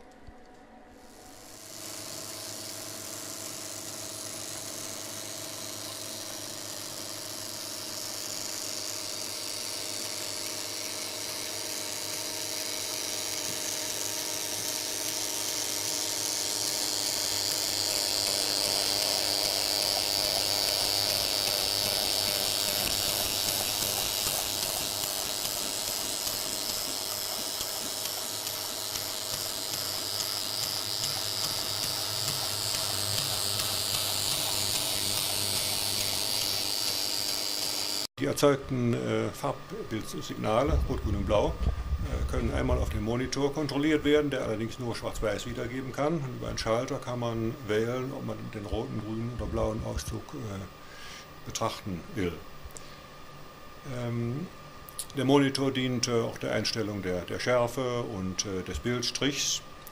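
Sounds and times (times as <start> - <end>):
film machine whirring: 0.0 - 59.9.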